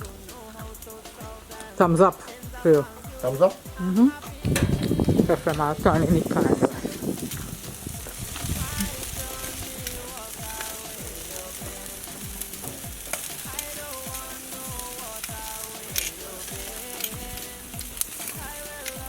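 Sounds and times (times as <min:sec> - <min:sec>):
chicken sizzling on a grill: 0:00.0 - 0:19.0
fat popping and crackling: 0:00.0 - 0:19.0
music with a beat: 0:00.0 - 0:19.0.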